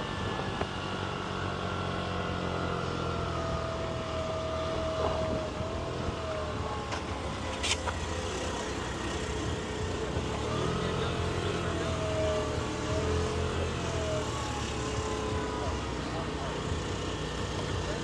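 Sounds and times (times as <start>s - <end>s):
moped engine running: 0.0s - 18.0s.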